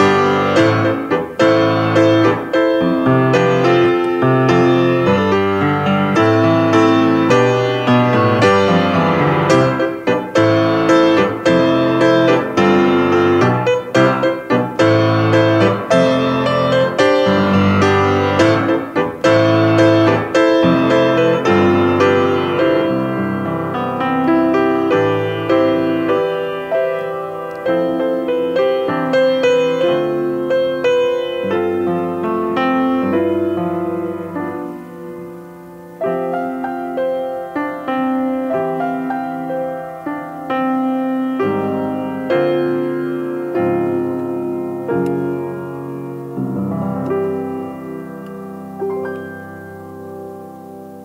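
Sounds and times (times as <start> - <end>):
slow tender piano piece: 0.0 - 51.0.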